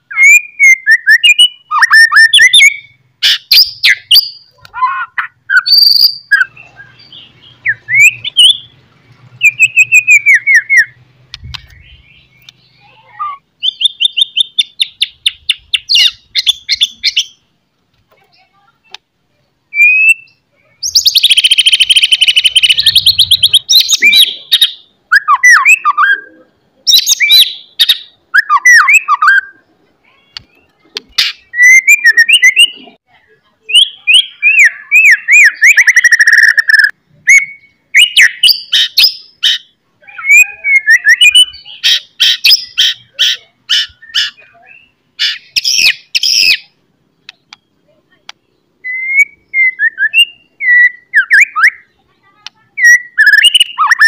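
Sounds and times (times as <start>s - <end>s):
songbird singing varied phrases: 0.0s - 54.0s.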